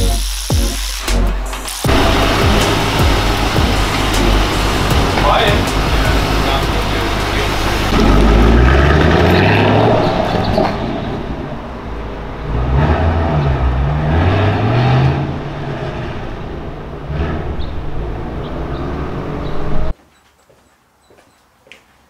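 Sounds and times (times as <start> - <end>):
car engine accelerating: 1.3 - 19.9.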